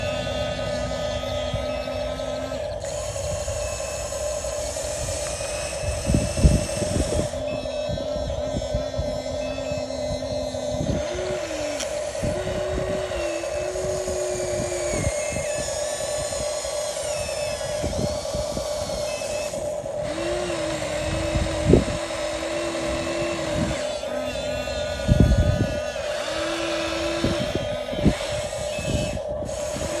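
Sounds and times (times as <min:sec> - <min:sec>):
electric motor high hum: 0:00.0 - 0:30.0
lower motor note: 0:00.0 - 0:30.0.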